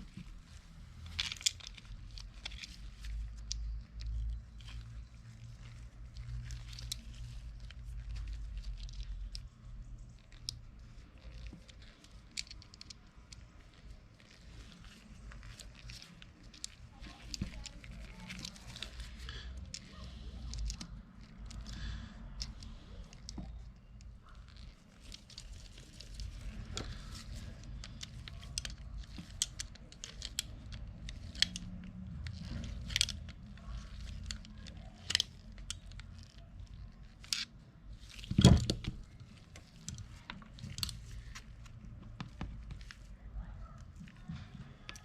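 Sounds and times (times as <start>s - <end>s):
clicks and scrapes of small parts: 0.0s - 45.0s.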